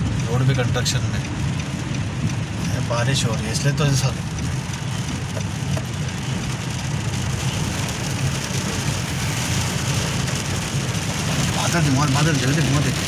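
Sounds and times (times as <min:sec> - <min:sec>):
low engine and road hum: 0:00.0 - 0:13.0
rain hissing on a car: 0:00.0 - 0:13.0.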